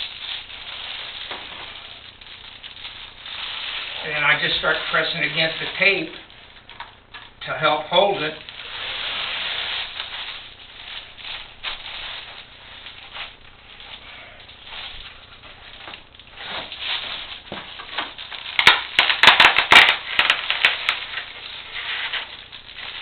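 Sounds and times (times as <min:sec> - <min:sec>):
foil insulation crinkling: 0:00.0 - 0:23.0.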